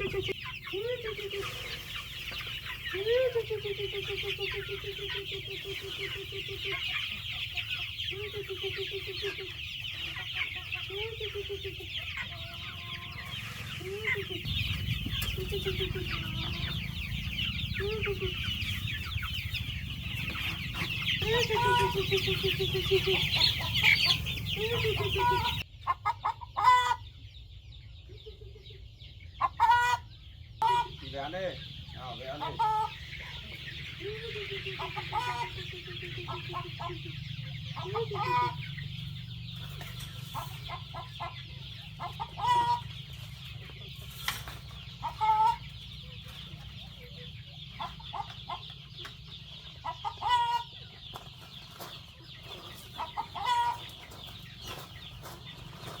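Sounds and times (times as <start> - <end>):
hens clucking: 0.0 - 56.0.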